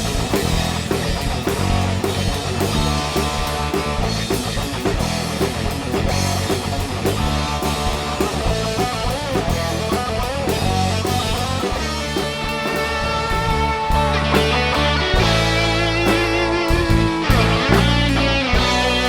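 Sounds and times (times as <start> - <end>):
electric guitar bending: 0.0 - 19.0
rock band playing: 0.0 - 19.0.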